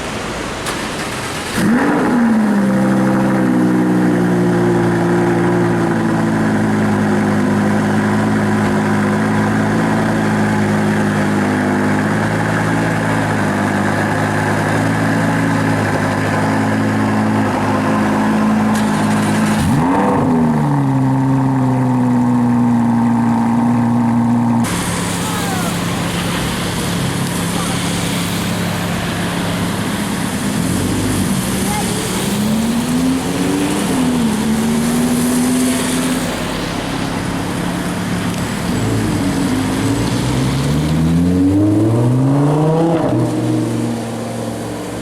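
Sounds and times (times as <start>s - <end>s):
second car engine starting: 0.0s - 45.0s
sports car engine starting and idling: 0.0s - 45.0s.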